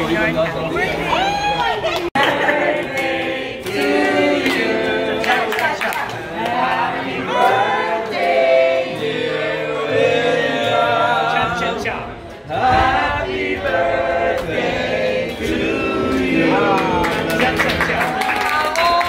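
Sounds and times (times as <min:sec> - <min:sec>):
group singing a celebration song: 0:02.0 - 0:18.5.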